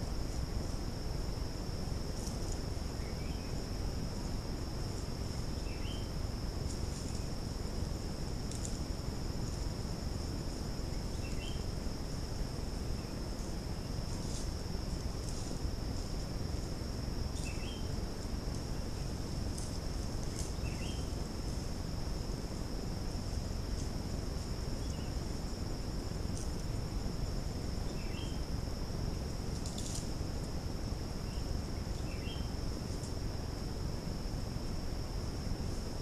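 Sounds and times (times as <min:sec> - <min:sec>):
insects droning: 0:00.0 - 0:36.0
low hiss: 0:00.0 - 0:36.0.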